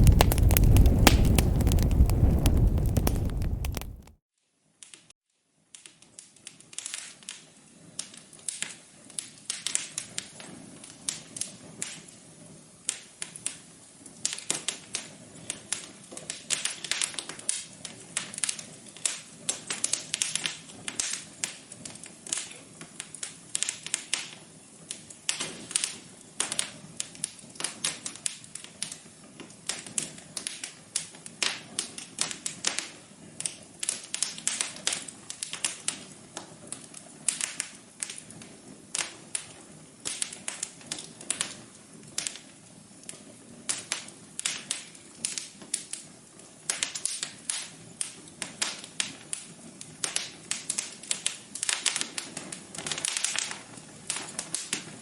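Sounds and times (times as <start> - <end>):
wood fire crackling: 0.0 - 4.2, 12.8 - 55.0.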